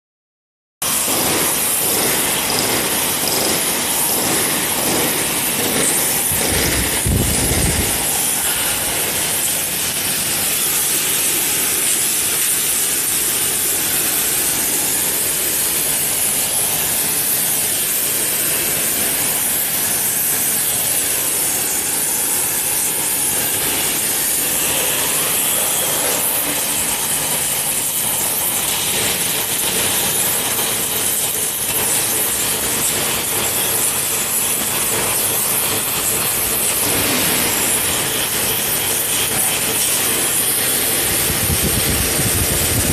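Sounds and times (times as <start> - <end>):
welding torch flame hissing: 0.8 - 42.9.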